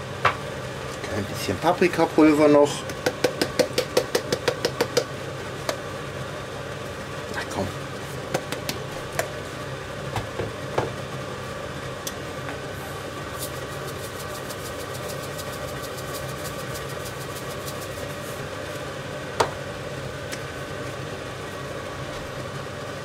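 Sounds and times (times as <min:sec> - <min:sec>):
induction hob humming: 0:00.0 - 0:23.0.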